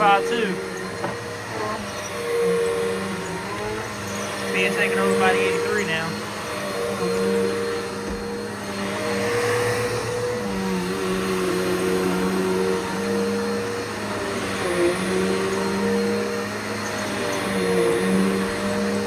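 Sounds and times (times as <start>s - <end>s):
vacuum cleaner running on carpet: 0.0s - 19.0s.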